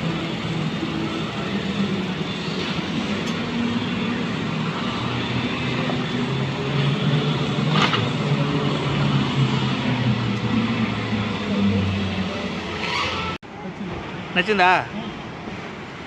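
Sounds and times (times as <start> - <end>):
car engine and road noise: 0.0 - 14.4.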